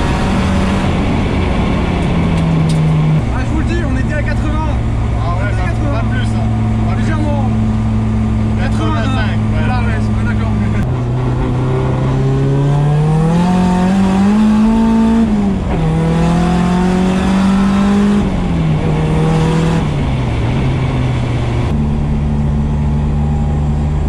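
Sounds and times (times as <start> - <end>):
car engine revving through gears: 0.0 - 24.0.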